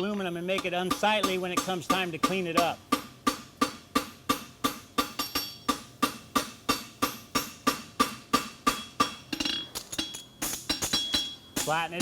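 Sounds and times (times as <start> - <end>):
hammer blows on anvil: 0.6 - 12.0.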